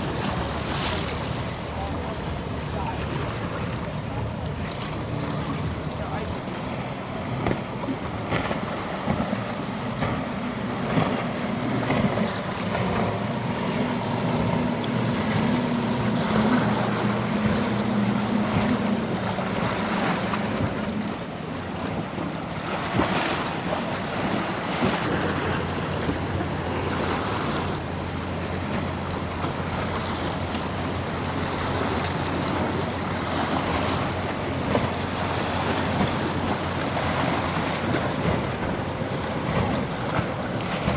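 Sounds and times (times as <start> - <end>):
boat engines running: 0.0 - 40.9
surf: 0.0 - 40.9.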